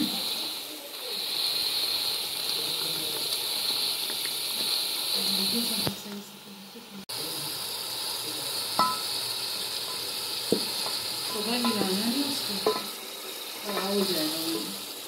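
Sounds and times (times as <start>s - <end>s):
gravy sizzling in a pot: 0.0s - 15.0s.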